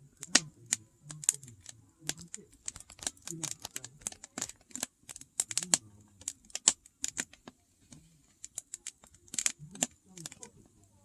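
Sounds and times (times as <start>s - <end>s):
campfire crackling and popping: 0.1s - 7.6s, 8.3s - 11.0s.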